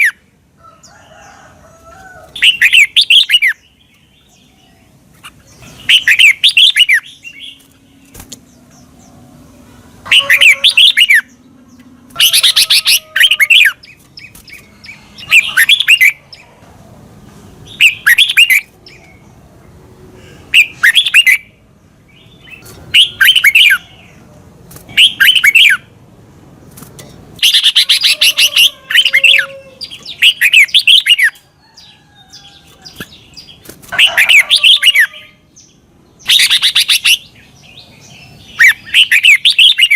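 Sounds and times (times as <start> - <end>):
bird singing warbling phrases: 0.0 - 0.3, 2.3 - 16.6, 17.5 - 19.5, 20.3 - 26.0, 27.0 - 39.9.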